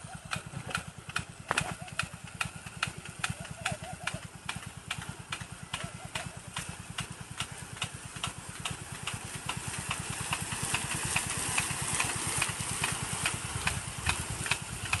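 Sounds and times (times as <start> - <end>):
engine running: 0.0 - 15.0
sprinkler water spray hiss: 0.0 - 15.0
sharp ticks: 0.2 - 15.0.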